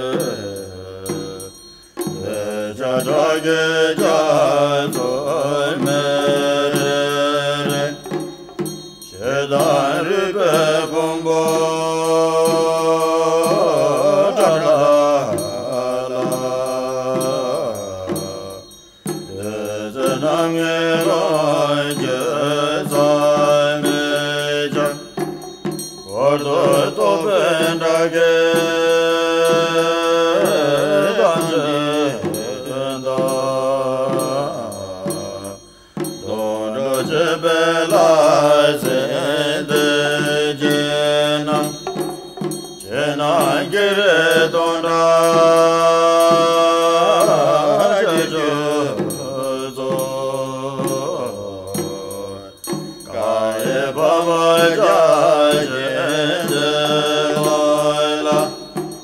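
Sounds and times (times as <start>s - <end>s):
melodic mantra chanting: 0.0s - 59.0s.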